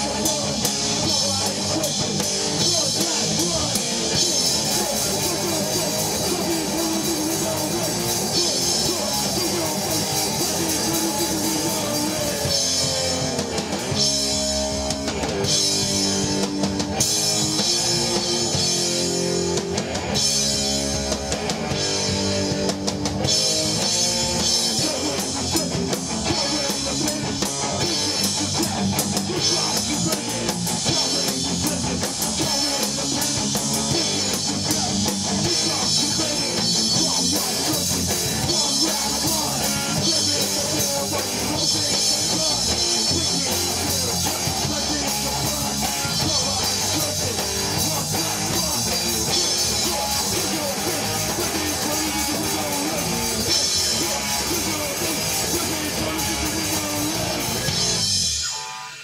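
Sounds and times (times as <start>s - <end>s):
bass guitar: 0.0s - 59.0s
distorted electric guitar: 0.0s - 59.0s
drum kit with cymbals: 0.0s - 59.0s.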